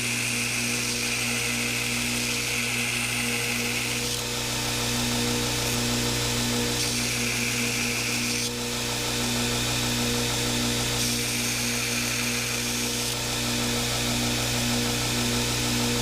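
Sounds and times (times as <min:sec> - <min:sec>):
belt grinder motor hum: 0:00.0 - 0:16.0.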